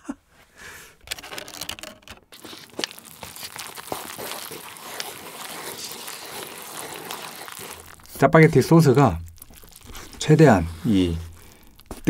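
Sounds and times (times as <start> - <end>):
sauce packet being emptied: 1.1 - 12.0
chopsticks stirring wet noodles: 2.3 - 12.0.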